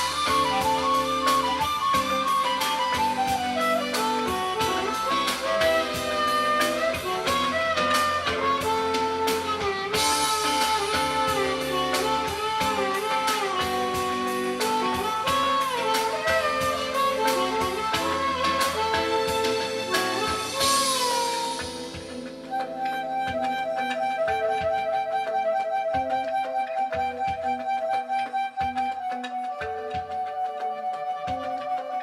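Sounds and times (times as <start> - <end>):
gliding lead melody: 0.0 - 32.0
instrumental music with steady beat: 0.0 - 32.0.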